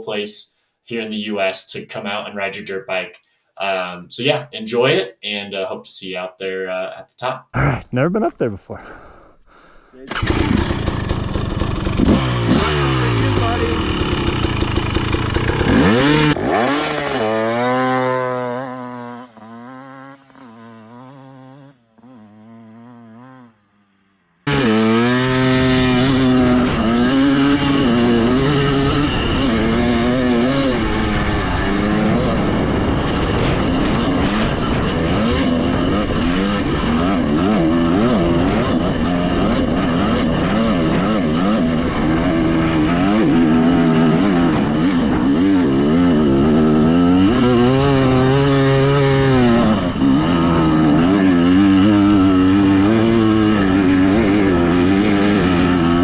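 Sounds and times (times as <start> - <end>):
dirt bike engine revving: 10.1 - 56.0.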